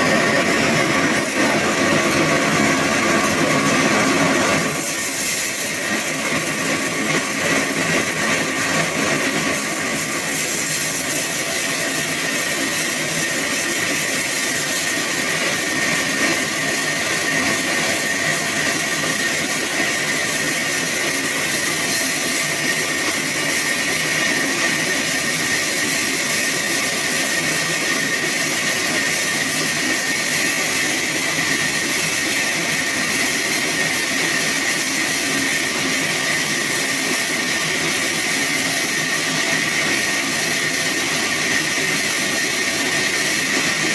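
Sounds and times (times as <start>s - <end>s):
sawmill saw running: 0.0s - 43.9s.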